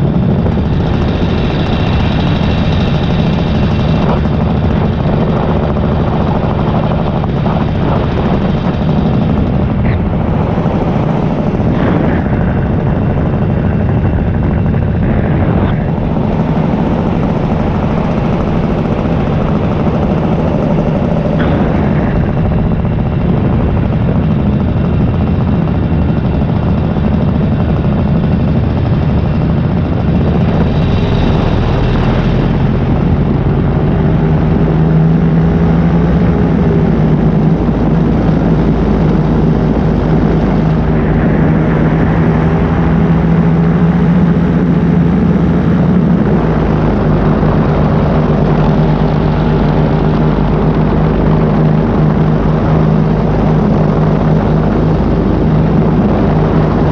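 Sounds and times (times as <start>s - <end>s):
paramotor engine and propeller: 0.0s - 56.9s.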